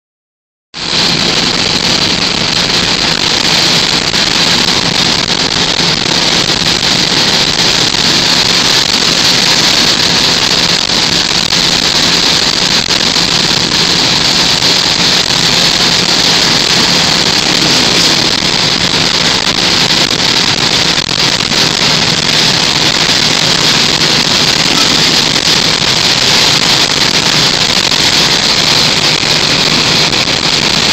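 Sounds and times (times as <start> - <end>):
car engine drone: 0.8 - 30.9
wind and road noise: 0.8 - 30.9.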